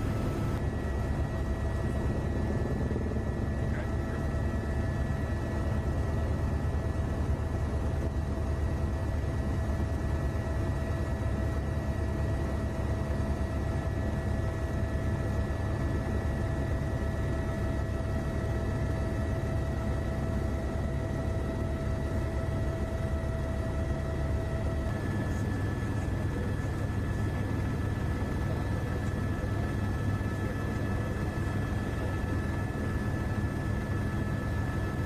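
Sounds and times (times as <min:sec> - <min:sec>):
aircraft engine rumble: 0:00.0 - 0:35.0.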